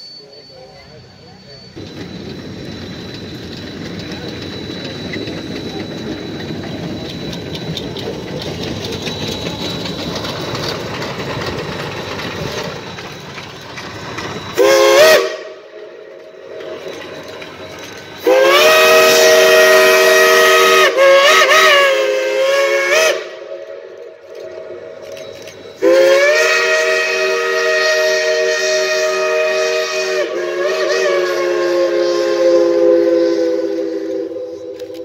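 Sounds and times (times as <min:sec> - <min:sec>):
steam locomotive chime whistle: 0:00.0 - 0:35.0.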